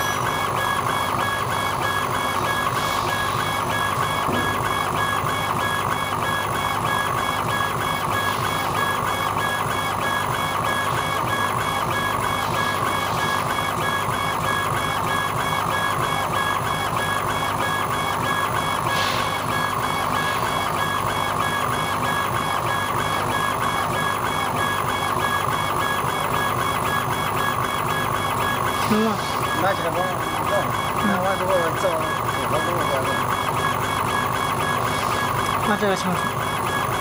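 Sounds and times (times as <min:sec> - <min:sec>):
stepper motors whirring: 0:00.0 - 0:37.0.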